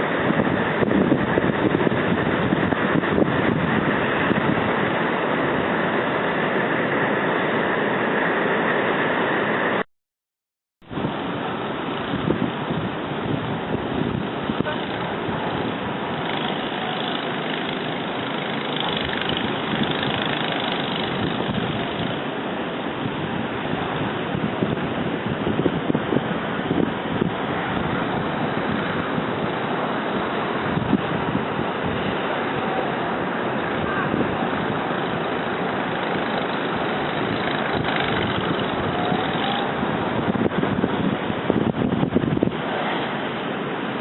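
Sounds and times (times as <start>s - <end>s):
wind blowing across microphone: 0.0s - 9.8s, 10.9s - 44.0s.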